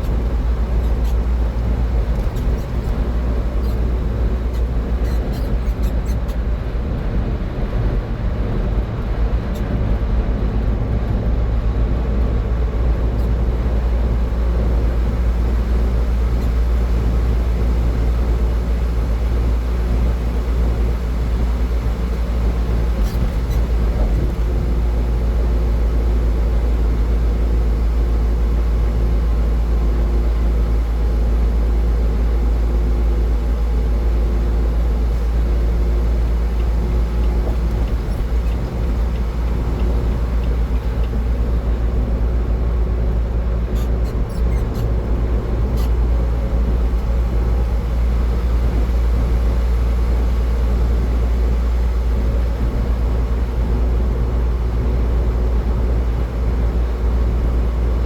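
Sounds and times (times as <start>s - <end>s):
car driving on highway: 0.0s - 58.0s.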